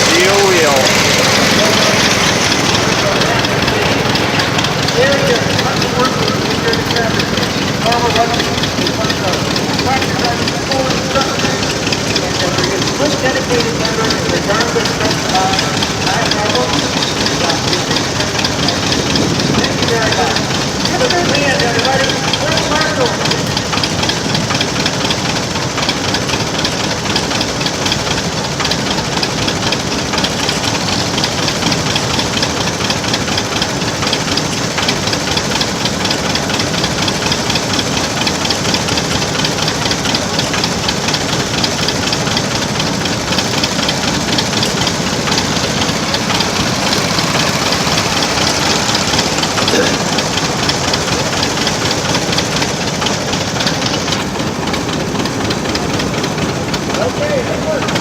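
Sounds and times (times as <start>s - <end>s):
engine running with rapid even beat: 0.0s - 58.0s.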